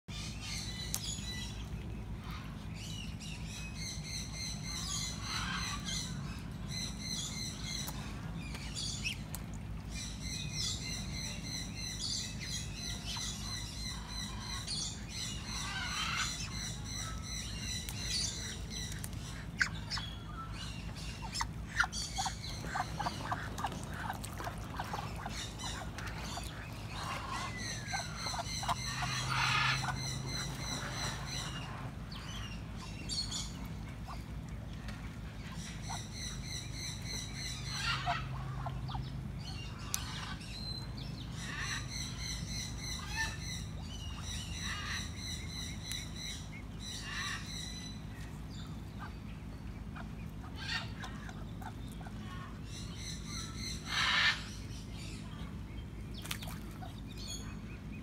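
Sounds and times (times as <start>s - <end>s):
steady low hum: 0.1s - 58.0s
wild birds chirping and trilling: 0.1s - 58.0s.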